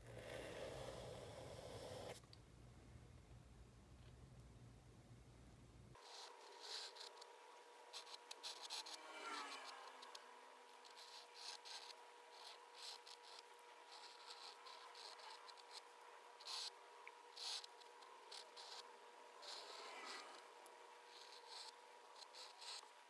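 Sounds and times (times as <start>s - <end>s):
faint steady hum: 0.0s - 23.0s
pen nib scratching paper: 0.1s - 2.2s, 6.0s - 23.0s.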